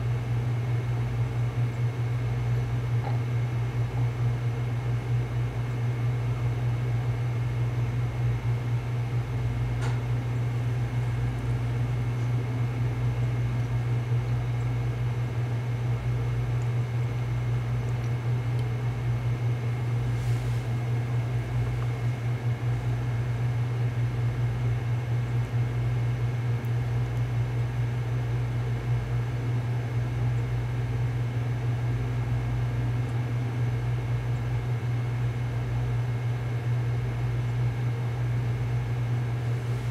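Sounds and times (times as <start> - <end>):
low mechanical hum with fan hiss: 0.0 - 39.9.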